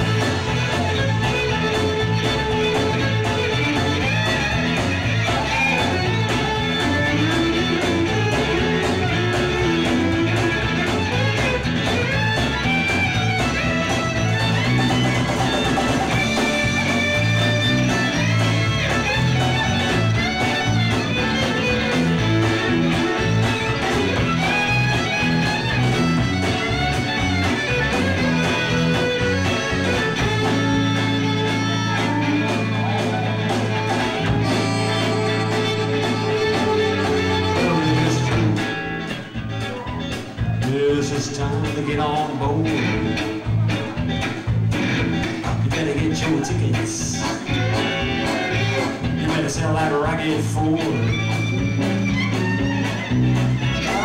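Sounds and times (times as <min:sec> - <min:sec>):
fiddle: 0:00.0 - 0:40.1, 0:42.8 - 0:54.0
bass guitar: 0:00.0 - 0:54.0
electric guitars: 0:00.0 - 0:54.0.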